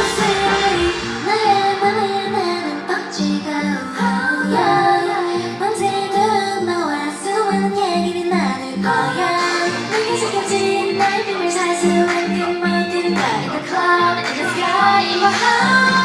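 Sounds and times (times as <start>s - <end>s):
dance-pop backing track: 0.0s - 16.0s
female group singing: 0.0s - 16.0s.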